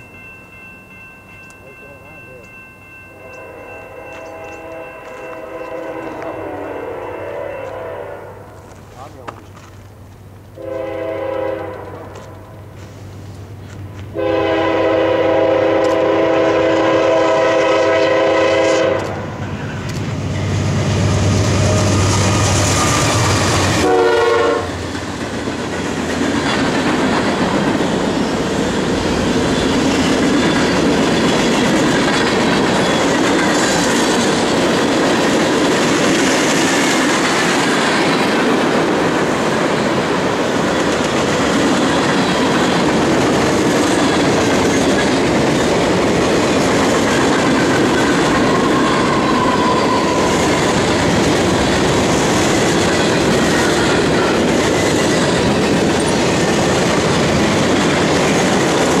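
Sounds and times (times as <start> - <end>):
train wheels clattering on rails: 11.6 - 59.0.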